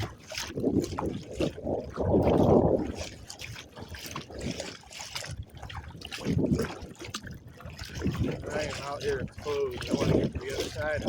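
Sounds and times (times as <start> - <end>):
paddle splashing in water: 0.0 - 11.0
rush of water: 0.0 - 11.0
water trickling: 0.0 - 11.0.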